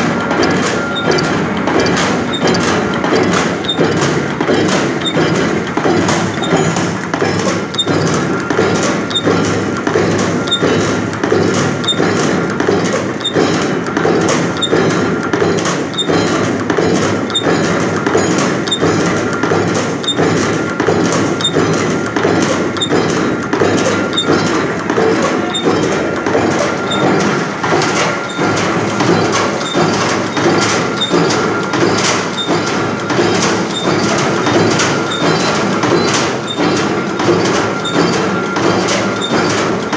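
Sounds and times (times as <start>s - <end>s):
machine die knocking through metal: 0.0s - 39.9s
machine drive hum: 0.0s - 39.9s.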